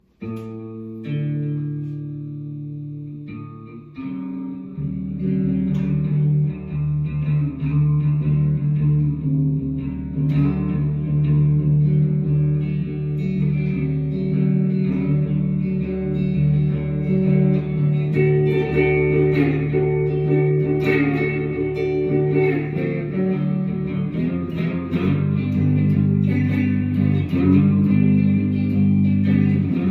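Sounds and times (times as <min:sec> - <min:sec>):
plucked guitar music: 0:00.0 - 0:29.9.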